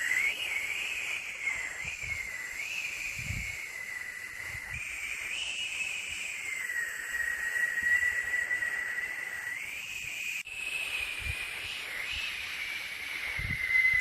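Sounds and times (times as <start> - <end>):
wavering high whistling tone: 0.0 - 14.0
white noise hiss: 0.0 - 14.0.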